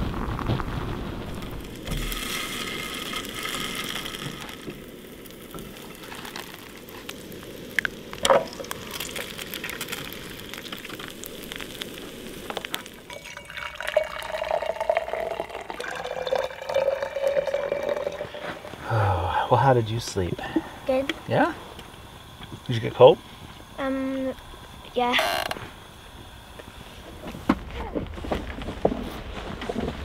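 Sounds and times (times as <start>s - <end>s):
food sizzling in a frying pan: 0.0s - 26.7s.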